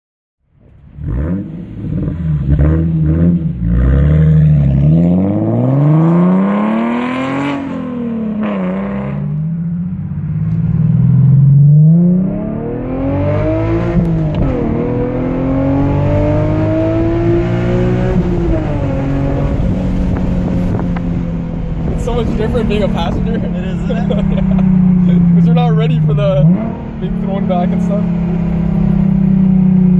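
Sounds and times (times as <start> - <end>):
car engine revving and accelerating: 0.6 - 29.9.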